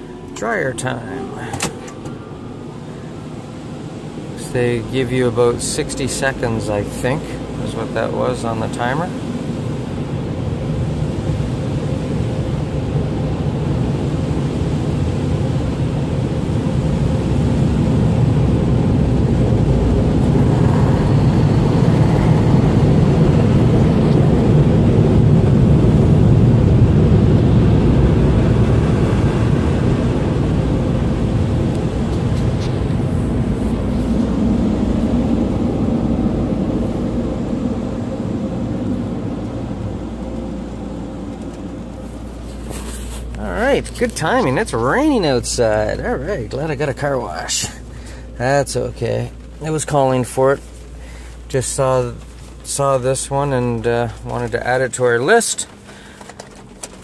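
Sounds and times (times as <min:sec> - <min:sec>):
car wash air blowers: 0:00.0 - 0:57.0.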